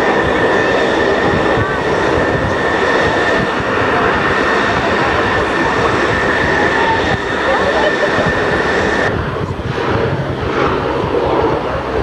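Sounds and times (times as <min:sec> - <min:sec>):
high engine whine: 0:00.0 - 0:12.0
turboprop engines rumbling: 0:00.0 - 0:12.0.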